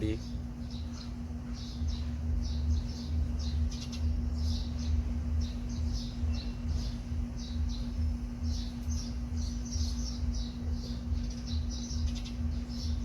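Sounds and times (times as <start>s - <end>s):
small birds chirping: 0.0s - 13.0s
steady low hum and rumble: 0.0s - 13.0s.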